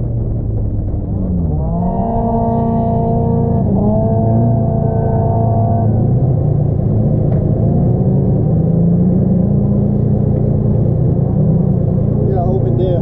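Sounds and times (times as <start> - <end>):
loud engine rumble: 0.0 - 13.0.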